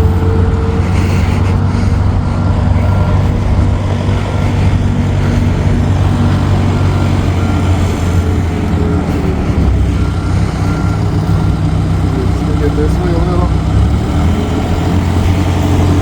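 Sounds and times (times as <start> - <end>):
reversing beeps: 0.0 - 13.4
heavy vehicle engine rumbling: 0.0 - 16.0.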